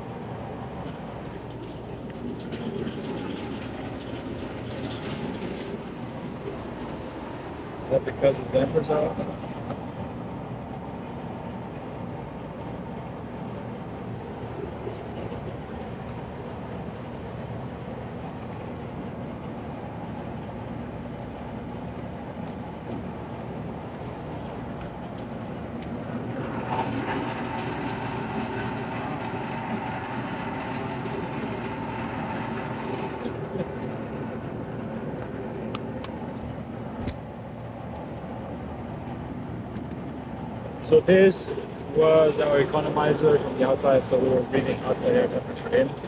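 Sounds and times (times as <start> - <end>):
air conditioning unit drone: 0.0 - 46.0.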